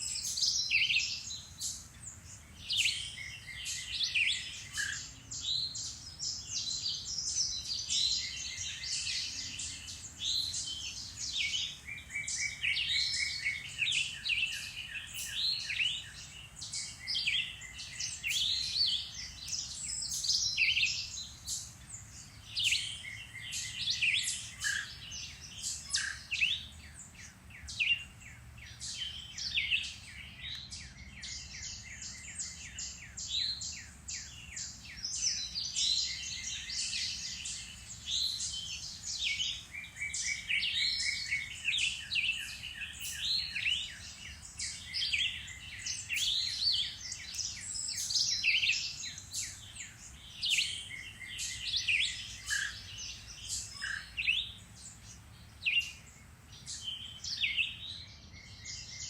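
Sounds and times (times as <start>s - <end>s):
songbirds singing and calling: 0.0s - 59.0s.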